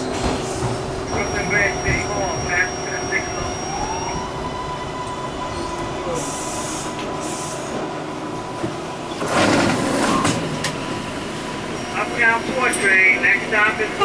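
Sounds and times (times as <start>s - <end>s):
subway car whine: 0.0s - 14.0s.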